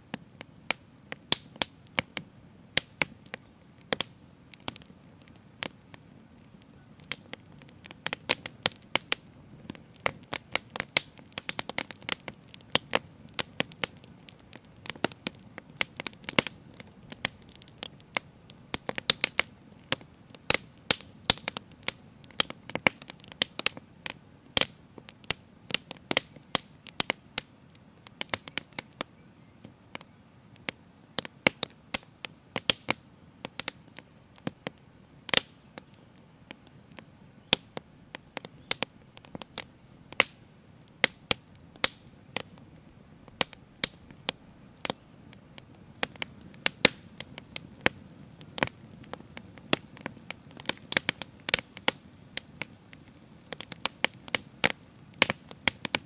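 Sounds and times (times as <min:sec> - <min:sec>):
faint steady hiss: 0:00.0 - 0:56.0
wood fire crackling: 0:00.0 - 0:56.0.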